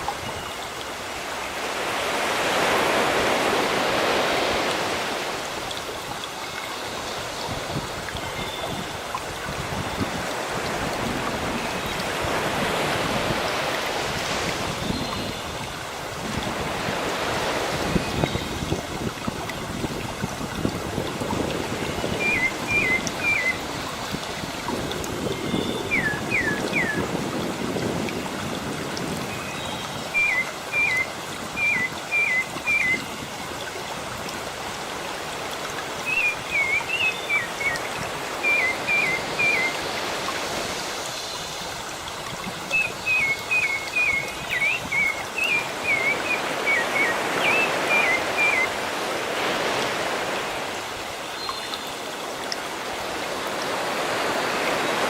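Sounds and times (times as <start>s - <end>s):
sea surf washing: 0.0s - 51.3s, 51.9s - 55.0s.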